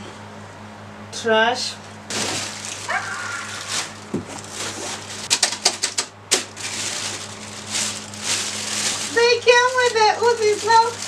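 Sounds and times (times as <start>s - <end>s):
plastic and cardboard rustling: 2.1s - 11.0s.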